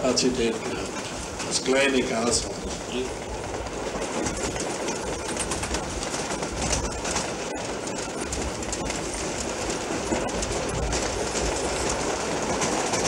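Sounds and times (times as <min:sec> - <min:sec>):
train wagons rumbling: 0:00.0 - 0:13.0
wheels clicking over rail joints: 0:00.0 - 0:13.0.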